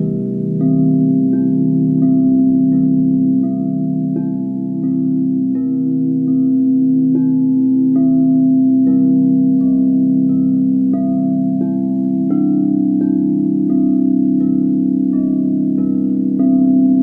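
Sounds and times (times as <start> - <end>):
crystal singing bowls ringing: 0.0 - 17.0
pulsing drone of bowls: 0.0 - 17.0.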